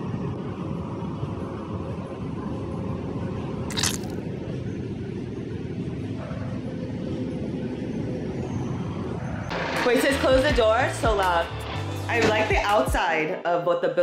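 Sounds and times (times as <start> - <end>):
city traffic rumble: 0.0 - 13.4.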